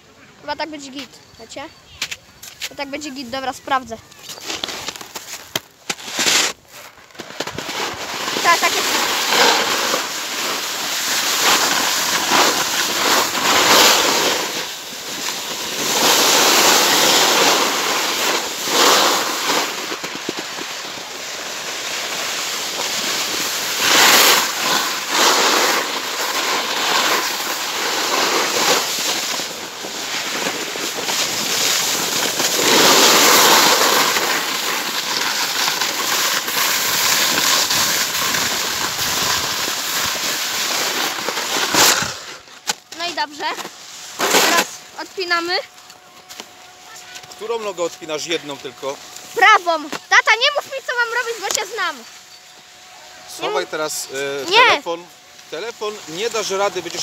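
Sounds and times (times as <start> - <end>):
snowboard scraping over snow: 4.3 - 45.6, 46.3 - 52.0, 53.3 - 57.0.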